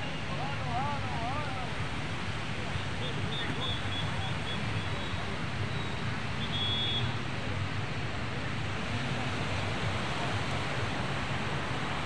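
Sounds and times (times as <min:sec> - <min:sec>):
surf washing on beach: 0:00.0 - 0:06.4, 0:07.0 - 0:12.0.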